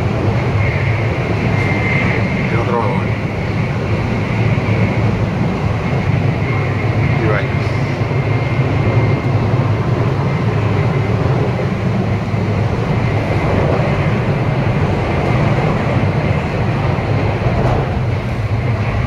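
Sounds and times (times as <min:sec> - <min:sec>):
high-speed train running: 0:00.0 - 0:19.0.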